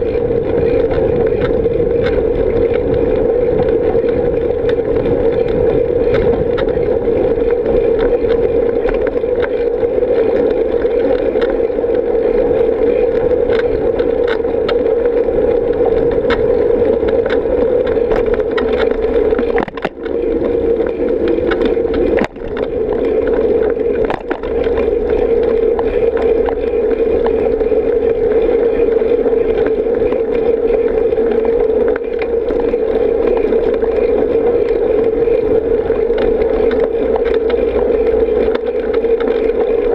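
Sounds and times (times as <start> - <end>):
bicycle tyre rumble on pavement: 0.0 - 39.9
wind rush on microphone: 0.0 - 39.9.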